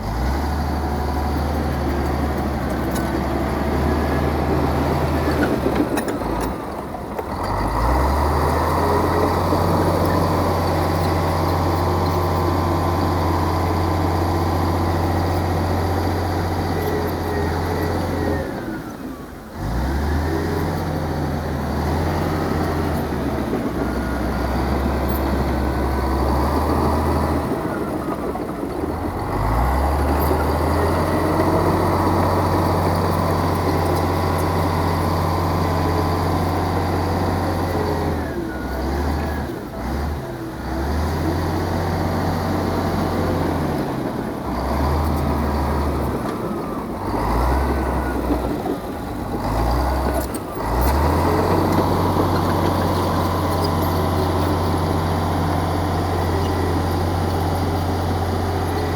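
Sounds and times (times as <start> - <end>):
heavy diesel engine under load: 0.0 - 58.9.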